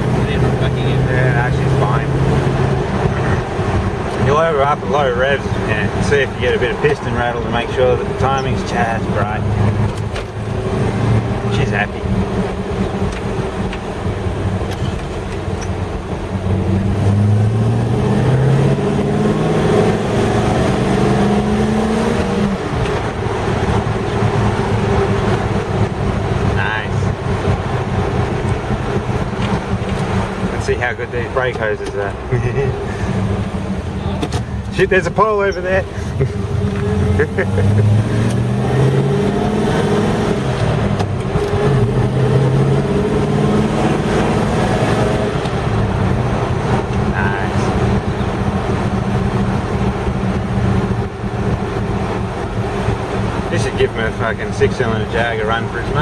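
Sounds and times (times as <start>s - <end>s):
car engine pulling under load: 0.0s - 56.0s.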